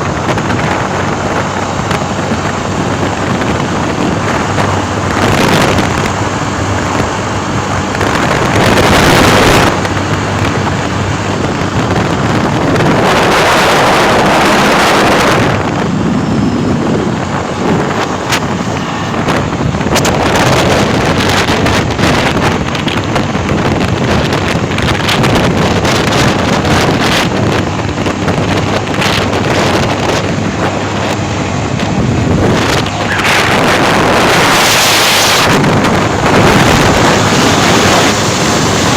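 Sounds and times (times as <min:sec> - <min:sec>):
motorcycle engine hum: 0:00.0 - 0:38.9
wind buffeting microphone: 0:00.0 - 0:38.9.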